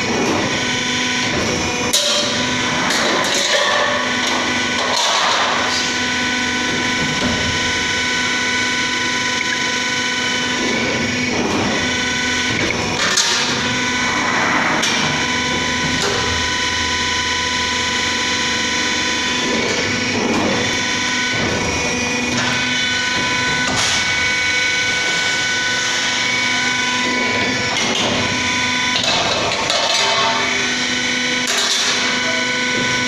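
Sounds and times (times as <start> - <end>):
bending machine humming: 0.0 - 33.0.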